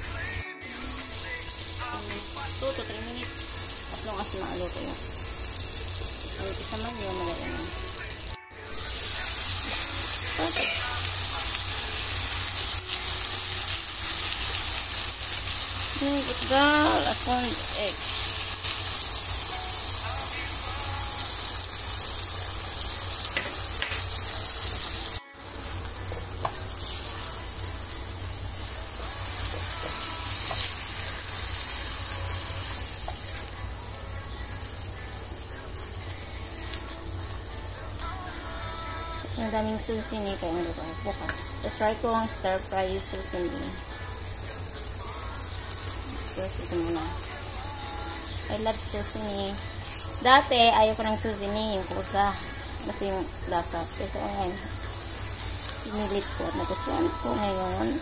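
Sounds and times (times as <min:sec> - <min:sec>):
vegetables and egg sizzling in pan: 0:00.0 - 0:58.0.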